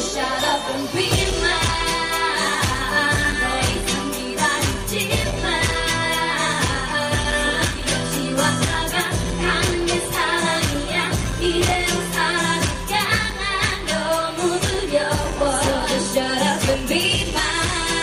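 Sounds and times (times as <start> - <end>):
pop backing track with beat: 0.0 - 18.0
woman singing into a microphone: 0.0 - 18.0.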